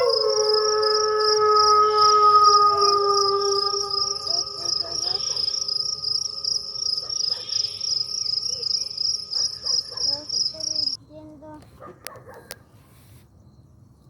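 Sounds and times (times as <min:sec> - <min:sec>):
cricket chirping: 0:00.0 - 0:11.3.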